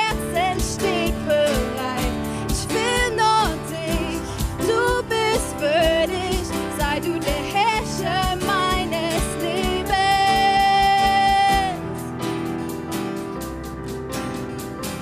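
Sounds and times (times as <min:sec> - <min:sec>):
person singing: 0:00.0 - 0:12.0
sustained instrumental backing: 0:00.0 - 0:15.0.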